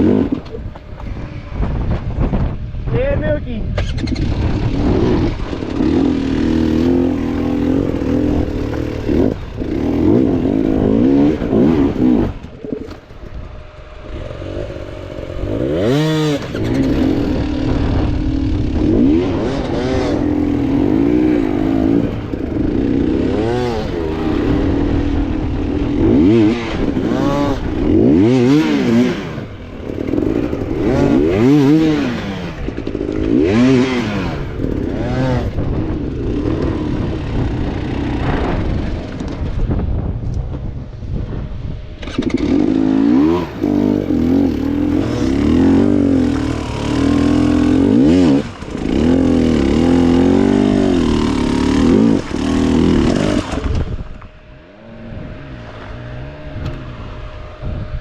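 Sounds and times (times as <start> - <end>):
motorcycle engine throttle blips: 0.0 - 58.0.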